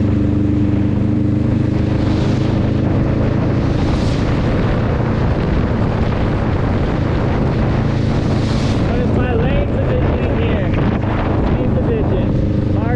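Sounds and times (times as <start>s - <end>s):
motorcycle engine running: 0.0s - 12.9s
wind buffeting microphone: 0.0s - 12.9s.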